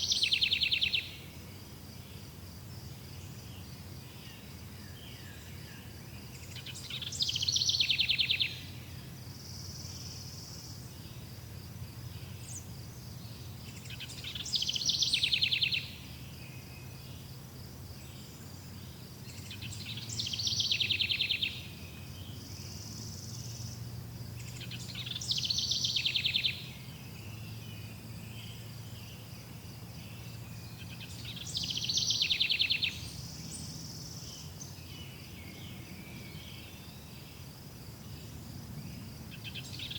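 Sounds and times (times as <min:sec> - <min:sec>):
insects buzzing faintly: 0:00.0 - 0:39.9.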